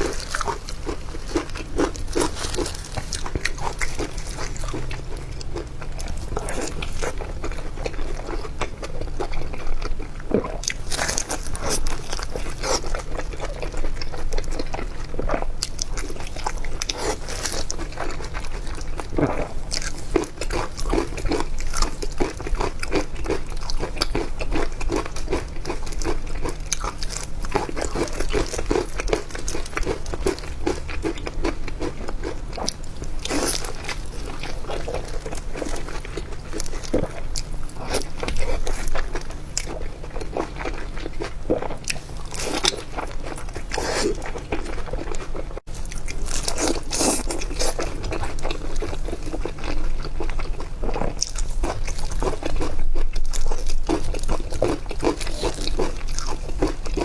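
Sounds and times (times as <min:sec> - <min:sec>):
person crunching food: 0:00.0 - 0:57.0.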